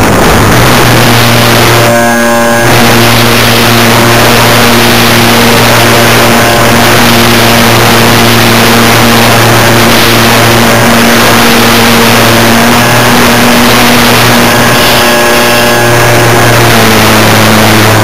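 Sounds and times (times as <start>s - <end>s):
high whine: 0.0s - 18.0s
model airplane electric motor: 0.0s - 18.0s
rush of air noise: 0.0s - 18.0s.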